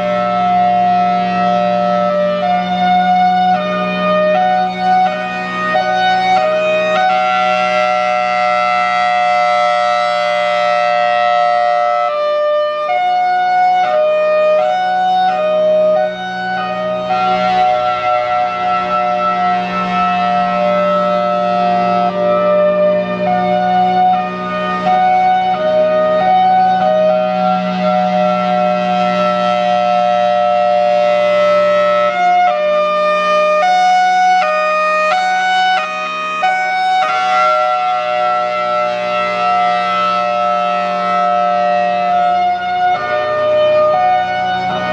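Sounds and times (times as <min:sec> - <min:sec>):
hi-lo warning siren: 0:00.0 - 0:44.9.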